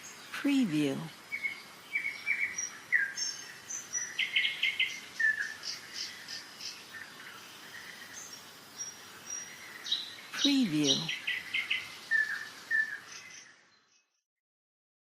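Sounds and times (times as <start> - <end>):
songbirds chirping and trilling: 0.0 - 14.2.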